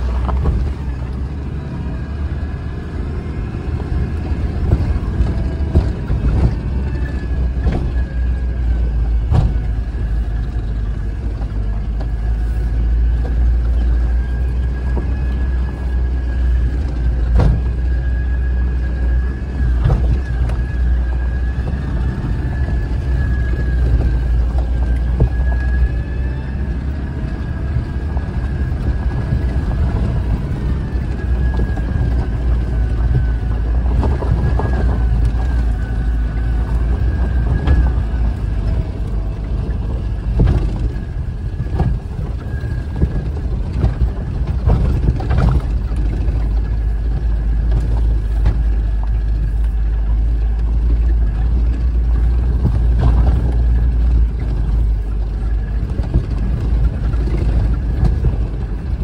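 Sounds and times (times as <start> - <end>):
vehicle engine low rumble: 0.0 - 59.0
vehicle knocking and rattling: 0.0 - 59.0.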